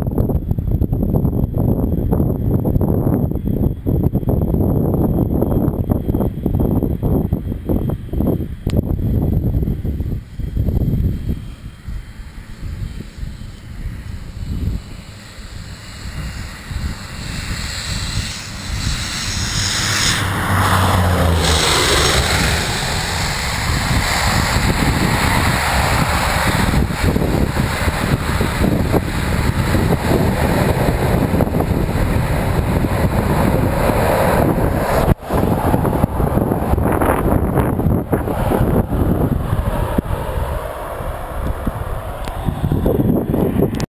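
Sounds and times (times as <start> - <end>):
propeller aircraft engine: 0.0 - 43.9
wind rumbling on microphone: 0.0 - 43.9
plane whooshing overhead: 5.2 - 43.9.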